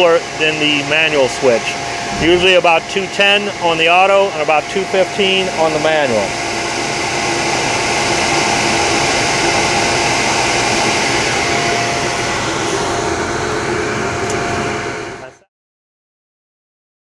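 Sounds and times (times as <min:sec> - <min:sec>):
heater running with hum: 0:00.0 - 0:15.5.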